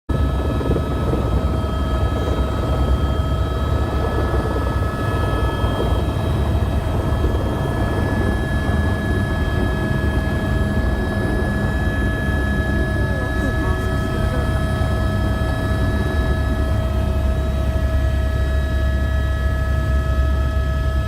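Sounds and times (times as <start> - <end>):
helicopter running: 0.1 - 21.0
steady whining tones: 0.1 - 21.0.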